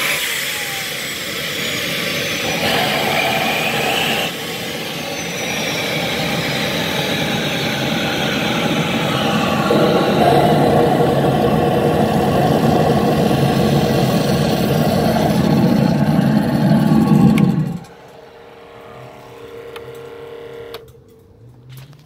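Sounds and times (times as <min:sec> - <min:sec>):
turbojet engine running: 0:00.0 - 0:20.9.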